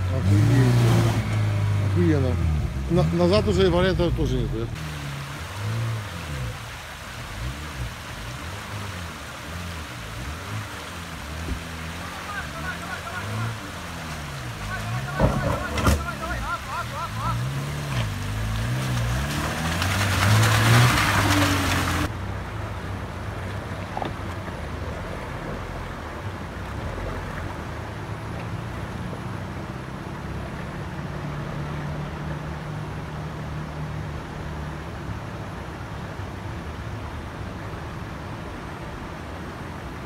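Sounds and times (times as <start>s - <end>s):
water splashing and rushing: 0.0s - 40.0s.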